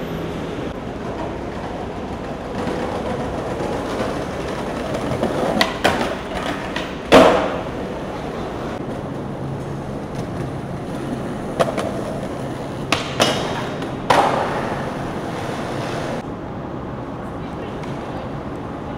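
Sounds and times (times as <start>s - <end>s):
traffic rumble: 0.0s - 18.9s.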